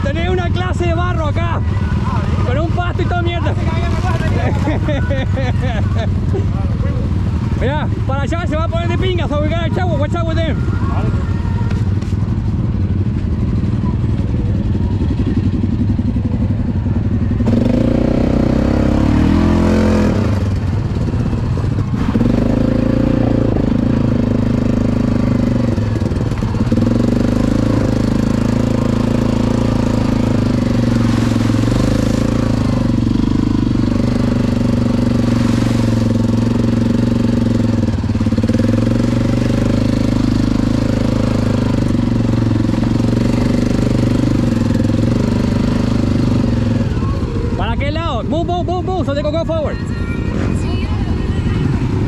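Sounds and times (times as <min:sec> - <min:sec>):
atv engine running: 0:00.0 - 0:52.0.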